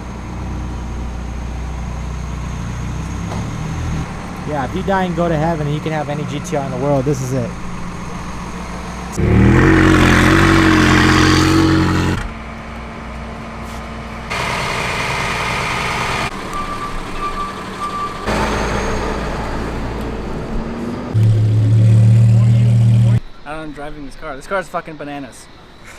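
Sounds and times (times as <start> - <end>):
car engine running: 0.0 - 13.4, 14.1 - 23.2.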